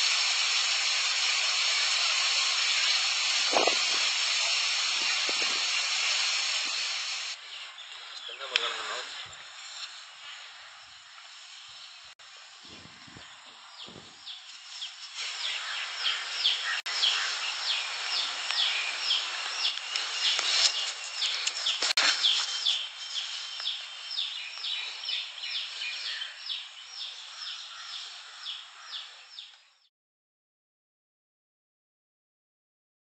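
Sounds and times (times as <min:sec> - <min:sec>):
steady background hiss: 0:00.0 - 0:28.4
small birds chirping: 0:01.4 - 0:29.8.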